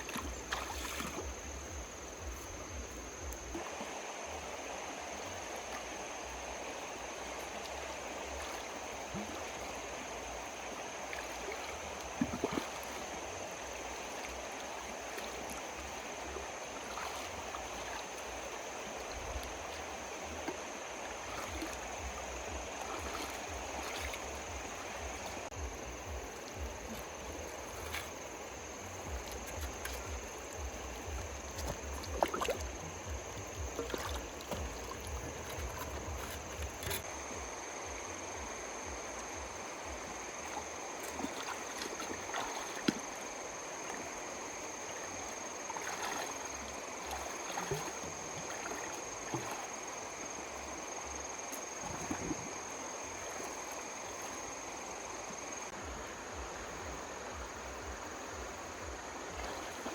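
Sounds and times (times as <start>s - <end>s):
splashes: 0.0s - 37.3s, 38.3s - 59.9s
water rushing: 0.0s - 59.9s.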